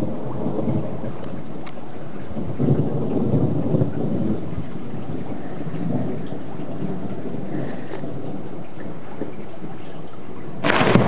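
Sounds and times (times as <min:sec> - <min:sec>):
thunder rumbling: 0:00.0 - 0:01.5, 0:02.2 - 0:11.0.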